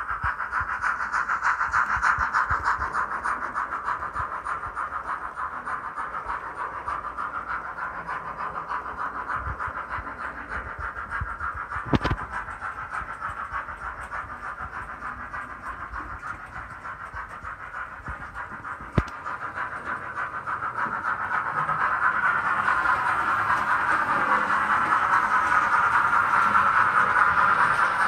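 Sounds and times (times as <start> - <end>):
model steam locomotive chuffing: 0.0 - 28.0.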